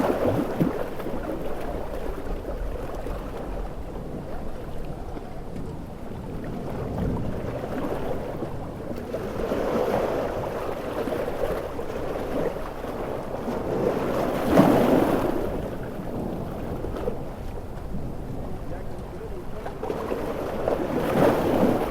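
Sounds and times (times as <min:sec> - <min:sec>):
ocean waves breaking: 0:00.0 - 0:21.9.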